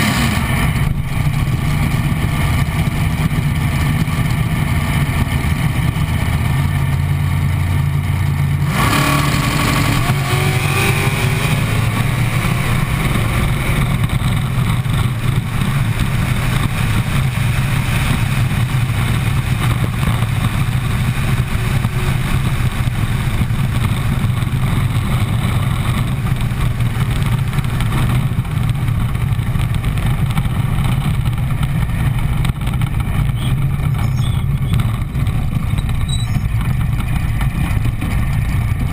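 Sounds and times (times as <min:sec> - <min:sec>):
dragster engine accelerating: 0:00.0 - 0:38.9.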